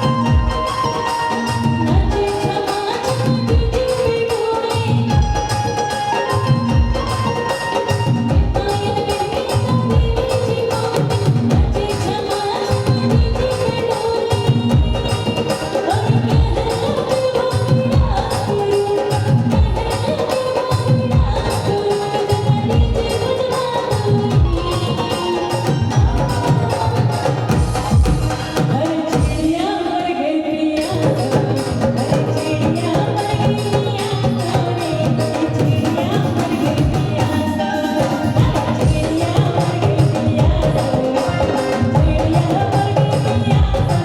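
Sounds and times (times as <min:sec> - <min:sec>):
hand drum beats: 0:00.0 - 0:30.1, 0:30.8 - 0:44.0
folk singing: 0:08.3 - 0:44.0.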